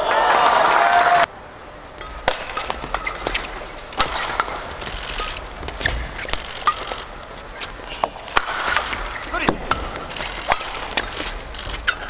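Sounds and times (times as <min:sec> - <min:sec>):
shoes squeaking on court floor: 0:01.6 - 0:12.0
rackets striking shuttlecock: 0:02.0 - 0:12.0.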